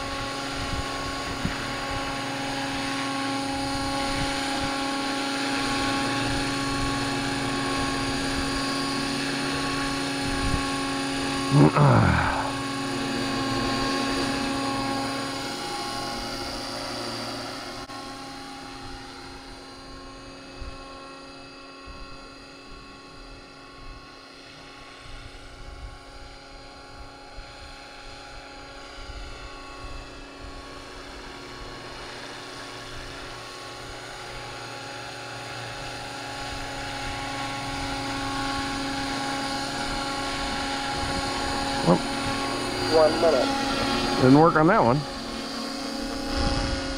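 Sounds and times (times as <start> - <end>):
low rotor noise: 0.0 - 46.9
model helicopter motor whine: 0.0 - 46.9.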